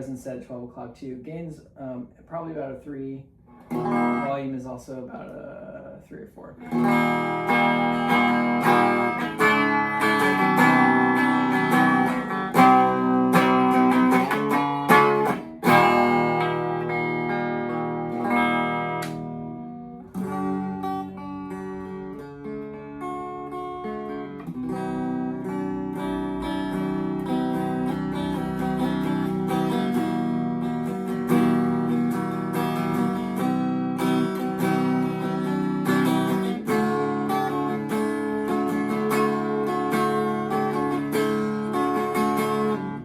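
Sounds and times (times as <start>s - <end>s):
clean electric guitar strumming: 0.0s - 43.0s.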